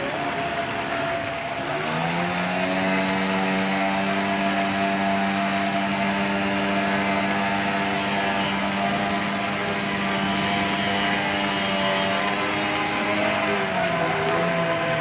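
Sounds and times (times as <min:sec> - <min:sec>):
engine revving up: 0:01.5 - 0:15.0.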